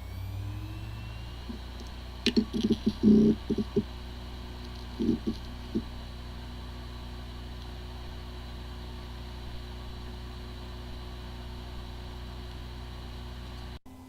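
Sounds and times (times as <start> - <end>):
hard drive humming: 0.0 - 14.0.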